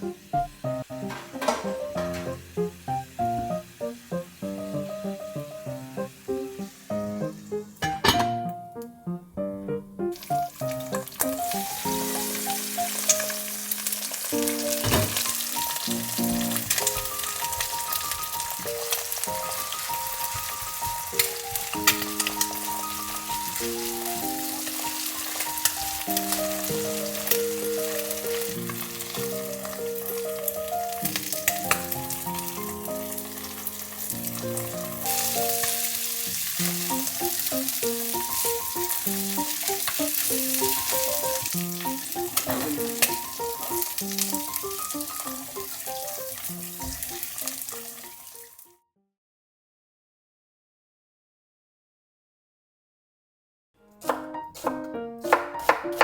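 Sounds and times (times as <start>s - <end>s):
food sizzling in a pan: 0.0s - 8.7s, 10.1s - 48.7s
background music: 0.0s - 47.7s.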